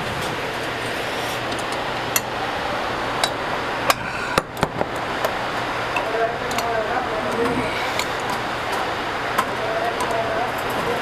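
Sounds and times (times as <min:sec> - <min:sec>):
steady rushing noise: 0:00.0 - 0:09.4.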